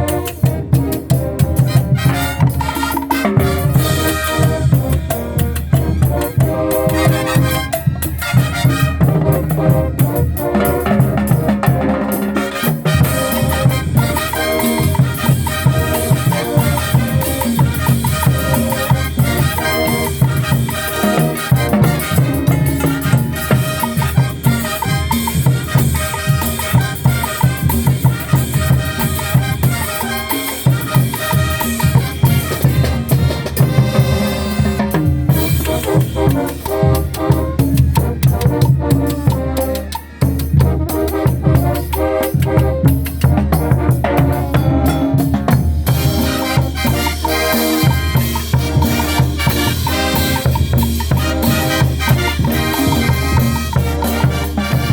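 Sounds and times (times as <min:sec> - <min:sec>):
brass band with drums: 0:00.0 - 0:54.9.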